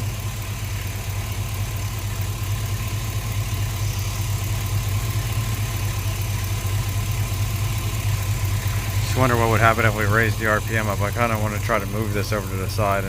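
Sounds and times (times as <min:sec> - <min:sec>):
car engine idling with misfire: 0:00.0 - 0:13.0.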